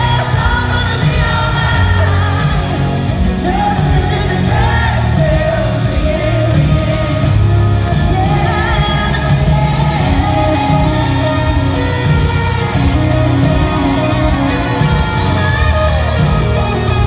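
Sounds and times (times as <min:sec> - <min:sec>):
live country-pop band: 0:00.0 - 0:17.0
woman singing: 0:00.0 - 0:17.0.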